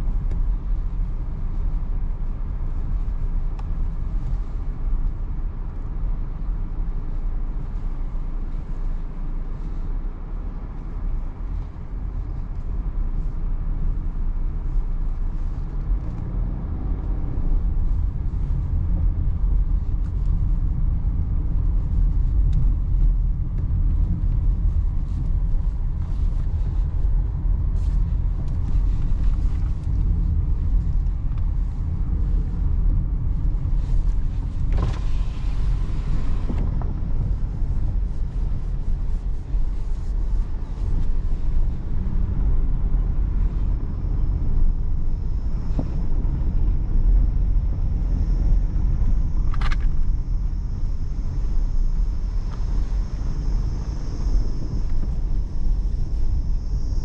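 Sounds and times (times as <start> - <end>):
car engine hum: 0.0 - 57.0
tyres rumbling on dirt road: 0.0 - 57.0.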